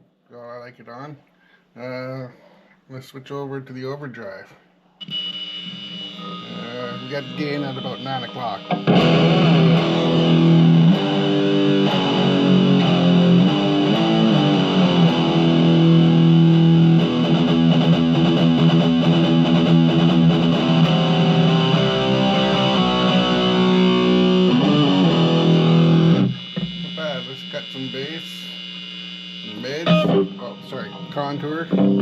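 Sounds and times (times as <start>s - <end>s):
distorted electric guitar: 5.1s - 32.0s.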